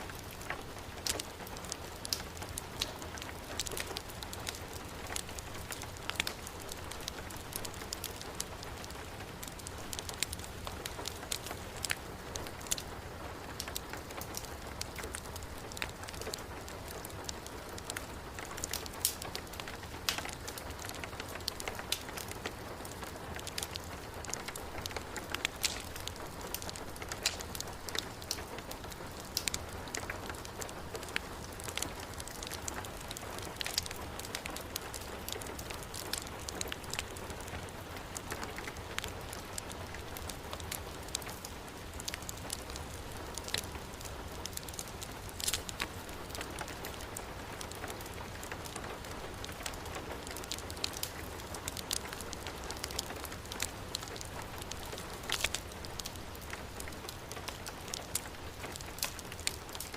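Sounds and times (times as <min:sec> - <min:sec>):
heavy rain: 0:00.0 - 0:59.9
wood fire crackling: 0:00.0 - 0:59.9.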